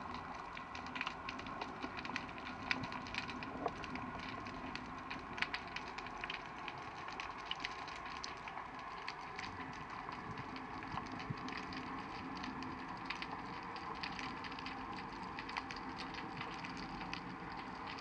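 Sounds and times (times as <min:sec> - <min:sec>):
faint steady hum: 0:00.0 - 0:18.0
sharp crackling clicks underwater: 0:00.0 - 0:18.0.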